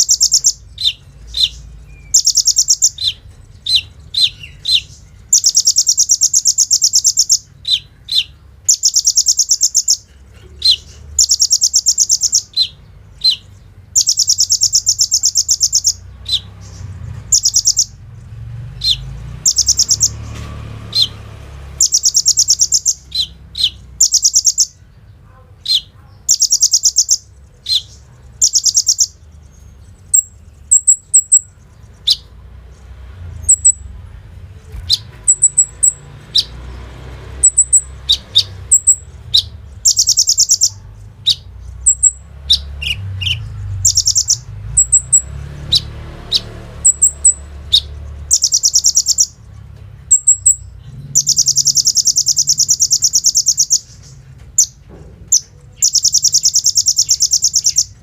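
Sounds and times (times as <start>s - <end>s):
bird high chirps: 0.0s - 58.0s.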